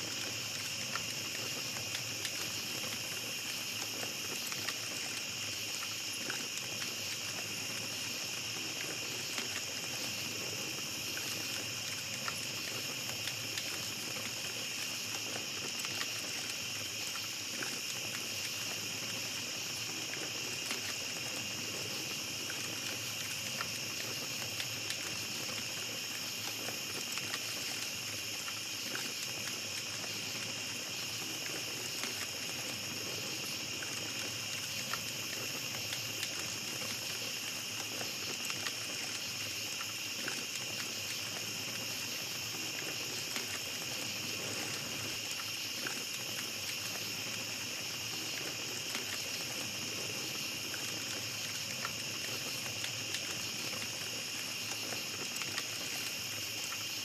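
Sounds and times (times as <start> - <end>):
campfire crackling: 0.0 - 57.0
night insects droning: 0.0 - 57.0.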